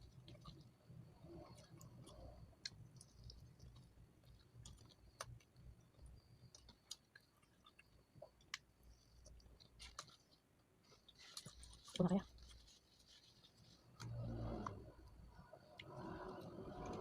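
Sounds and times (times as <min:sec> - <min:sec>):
faint chewing: 0:00.0 - 0:17.0.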